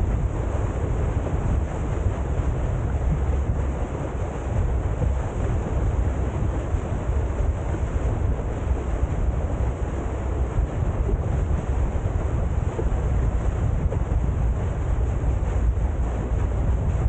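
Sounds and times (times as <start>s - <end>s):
water rushing from boat hull: 0.0s - 17.0s
wind buffeting microphone: 0.0s - 17.0s.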